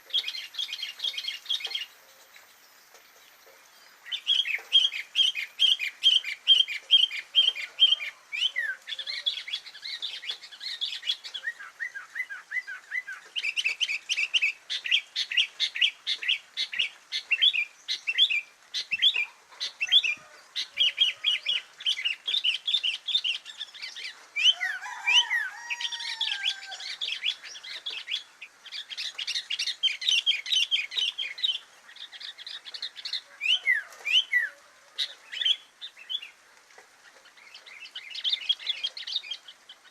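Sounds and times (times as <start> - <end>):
songbird chirping song: 0.0 - 39.9.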